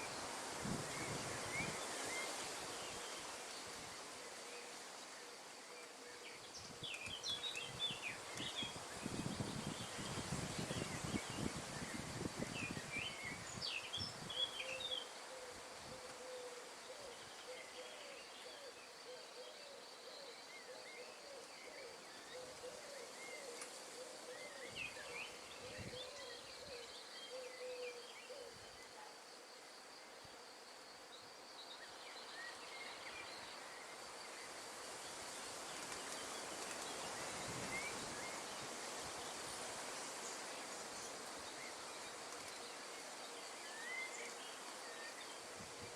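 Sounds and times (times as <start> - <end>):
wind rustling leaves: 0.0 - 45.9.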